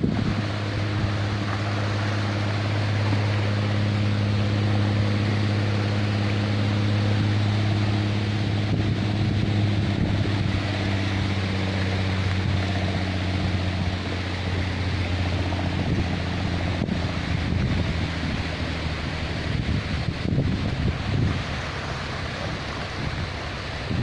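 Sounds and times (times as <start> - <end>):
engine humming: 0.0 - 24.0
wind noise: 0.0 - 24.0.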